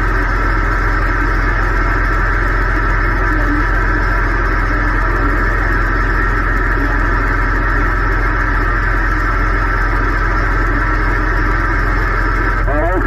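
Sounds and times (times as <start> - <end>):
low steady drone: 0.0 - 13.0
radio static hiss: 0.0 - 13.0.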